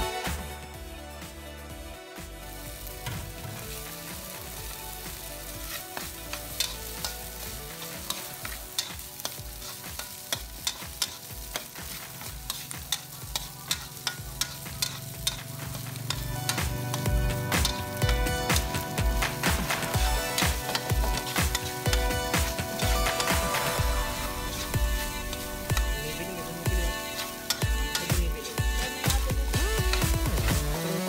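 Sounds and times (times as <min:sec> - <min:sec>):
food sizzling: 0:00.0 - 0:31.0
metal spatula scraping wok: 0:05.2 - 0:30.6.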